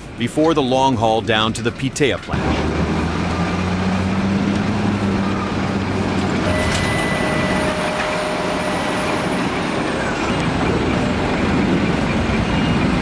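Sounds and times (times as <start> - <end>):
truck engine hum: 0.0 - 13.0
crane mechanical rumble: 1.8 - 13.0
thin mechanical whine: 2.4 - 13.0.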